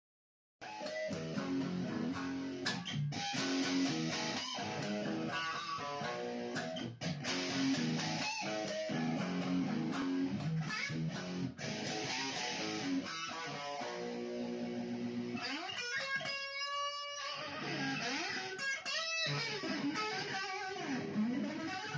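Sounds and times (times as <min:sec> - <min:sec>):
electric guitar riff: 0:00.6 - 0:21.9.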